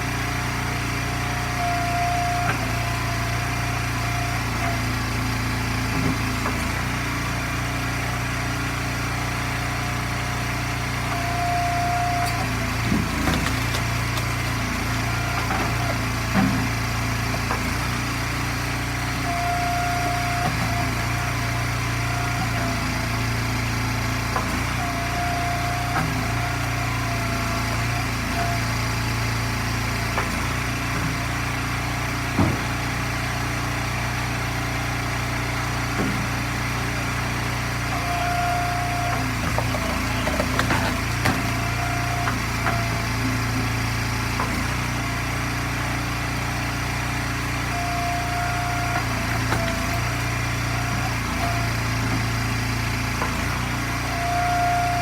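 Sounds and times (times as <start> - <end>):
gas engine running: 0.0 - 55.0.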